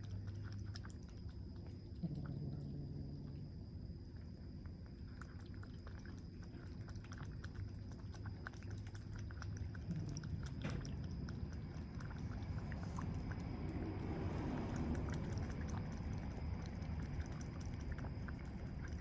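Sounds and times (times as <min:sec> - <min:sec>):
kitten wet mouth clicks: 0:00.0 - 0:02.6, 0:04.7 - 0:19.0.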